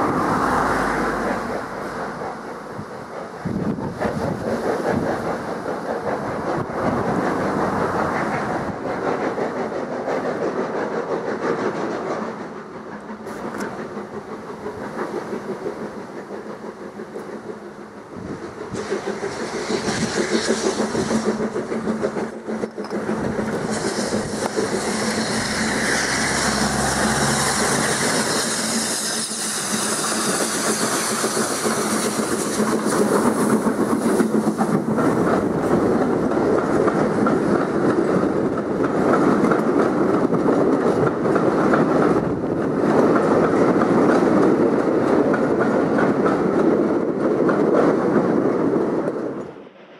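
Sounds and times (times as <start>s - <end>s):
steam locomotive running: 0.0s - 49.9s.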